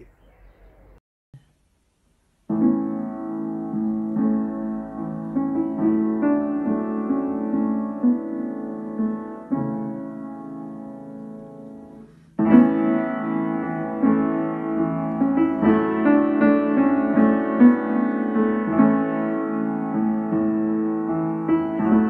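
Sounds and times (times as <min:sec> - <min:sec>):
upright piano playing hymn chords: 0:02.5 - 0:22.0.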